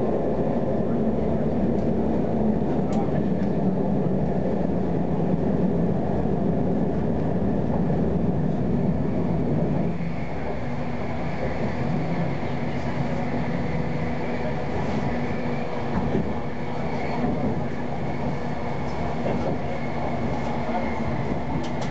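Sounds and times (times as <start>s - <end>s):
tram wheels rumbling on rails: 0.0s - 21.9s.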